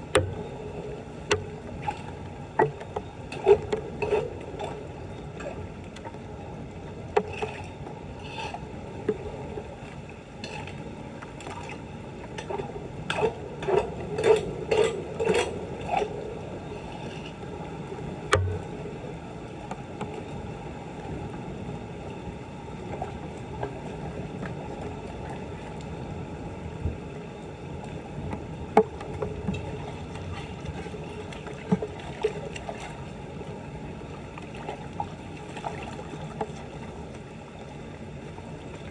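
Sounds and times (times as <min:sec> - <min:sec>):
floodwater sloshing and splashing: 0:00.0 - 0:38.9.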